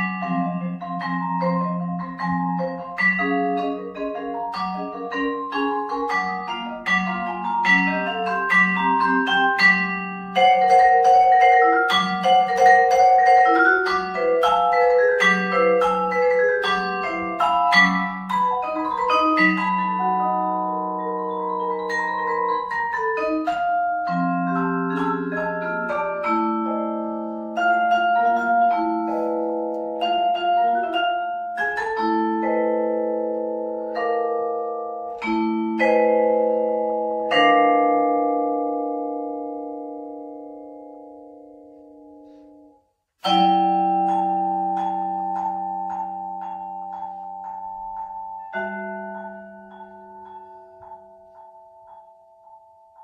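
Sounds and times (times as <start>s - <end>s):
vibraphone played with mallets: 0.0s - 53.0s.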